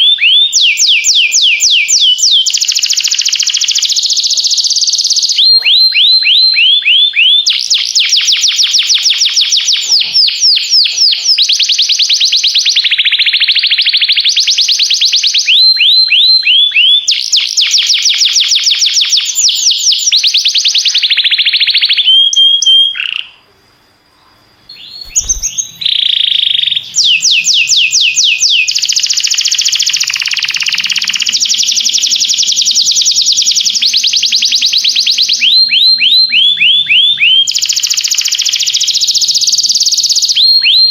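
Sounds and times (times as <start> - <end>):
canary singing fast trills: 0.0 - 23.5, 24.6 - 40.9.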